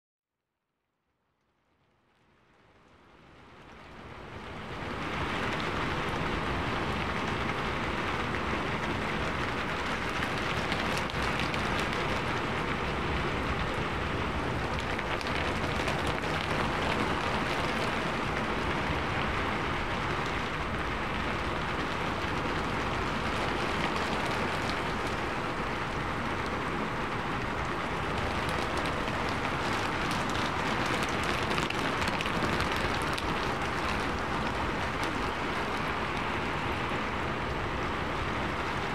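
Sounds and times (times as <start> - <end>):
heavy rain falling: 3.4 - 38.9.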